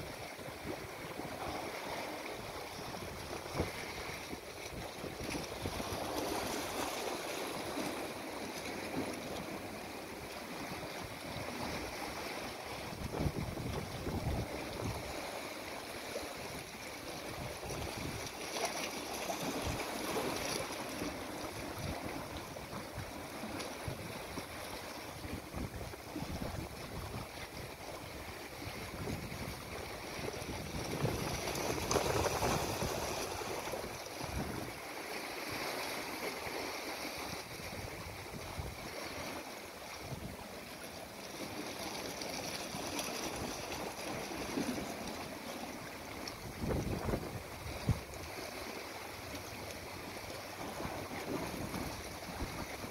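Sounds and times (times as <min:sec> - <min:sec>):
sea waves lapping against rocks: 0:00.0 - 0:52.9.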